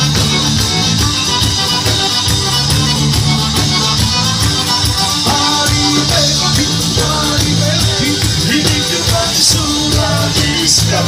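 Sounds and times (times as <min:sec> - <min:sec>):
folk dance music: 0:00.0 - 0:11.0.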